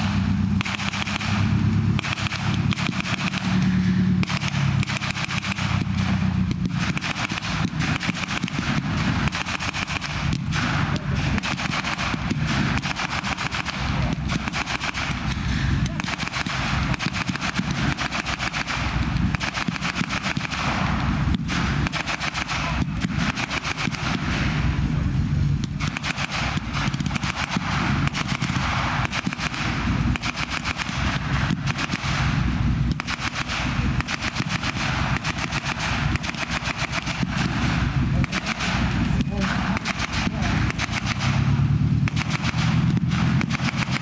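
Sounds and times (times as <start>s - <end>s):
machine-gun fire bursts: 0.0s - 24.7s, 25.6s - 44.0s
tank engine and tracks rumbling: 0.0s - 44.0s.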